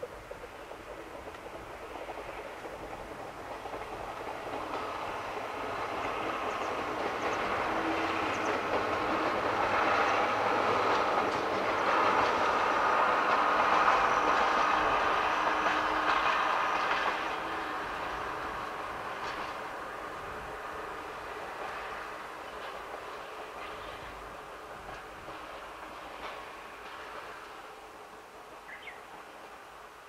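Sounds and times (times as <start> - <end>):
diesel train passing: 0.0 - 30.0.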